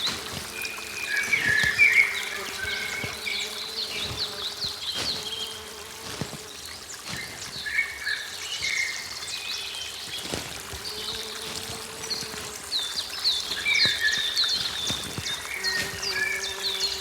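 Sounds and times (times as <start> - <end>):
faint insect-like buzz: 0.0 - 8.8, 9.6 - 17.0
trickling water: 0.0 - 17.0.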